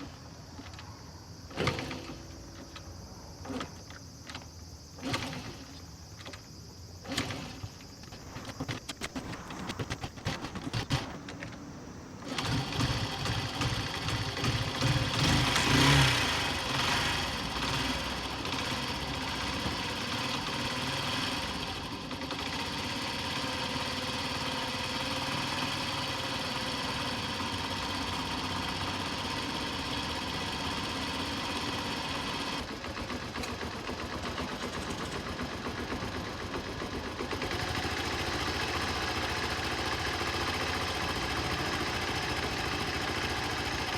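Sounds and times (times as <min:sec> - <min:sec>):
motorcycle engine starting and idling: 0:00.0 - 0:43.9.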